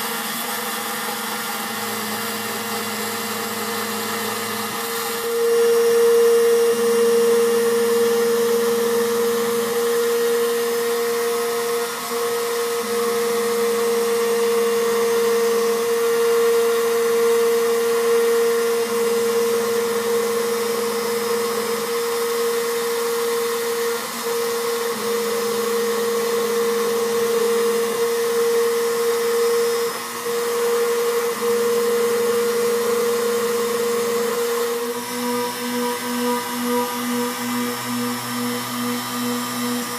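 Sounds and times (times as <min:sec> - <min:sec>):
cnc machine whine: 0:00.0 - 0:39.9.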